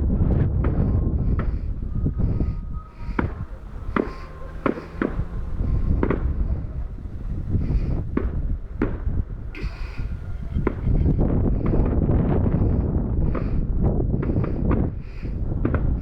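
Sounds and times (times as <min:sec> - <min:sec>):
wind on microphone: 0:00.0 - 0:16.0
distant fireworks bangs: 0:00.6 - 0:12.4, 0:13.3 - 0:16.0.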